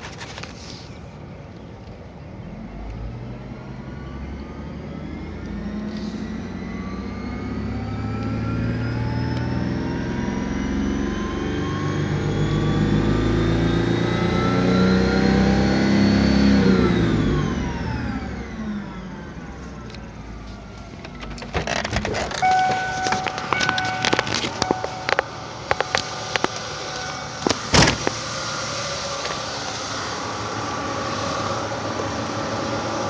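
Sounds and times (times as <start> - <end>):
high engine whine: 0.0 - 33.0
car engine revving: 2.4 - 33.0.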